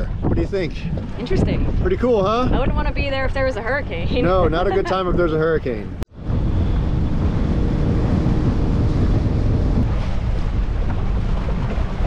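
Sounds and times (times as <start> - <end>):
boat running over water: 0.0 - 12.0
wind buffeting microphone: 0.0 - 12.0.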